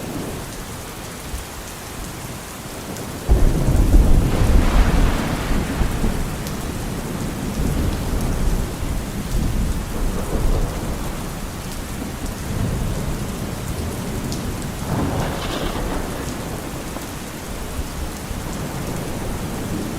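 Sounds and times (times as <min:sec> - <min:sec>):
steady rain: 0:00.0 - 0:19.9
thunder rumbling: 0:03.3 - 0:19.9.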